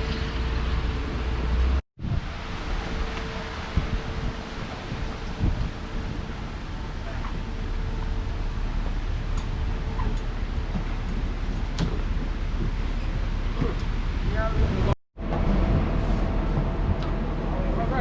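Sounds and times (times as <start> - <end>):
car road and wind rumble: 0.0 - 18.0.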